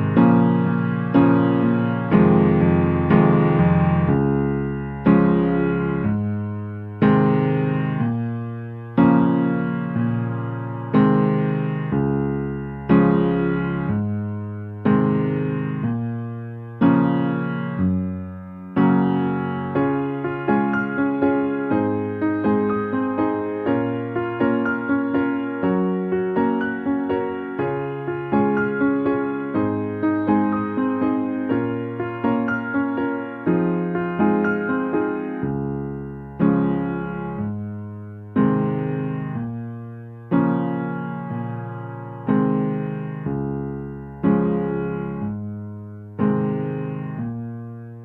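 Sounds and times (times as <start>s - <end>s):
soft electric piano music: 0.0s - 48.0s.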